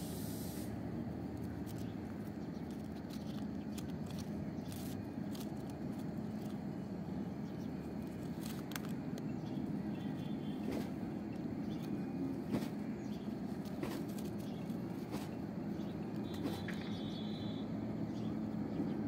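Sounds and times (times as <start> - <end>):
low outdoor rumble: 0.0 - 19.0
beak crunching fruit: 0.8 - 17.2.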